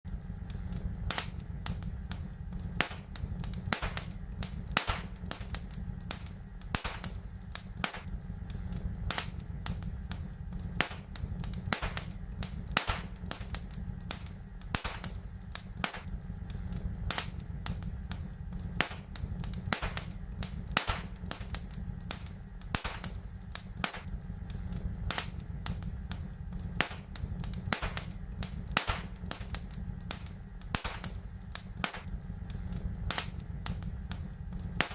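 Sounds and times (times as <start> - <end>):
low fire rumble: 0.0 - 34.9
wood fire crackling and popping: 0.1 - 34.9.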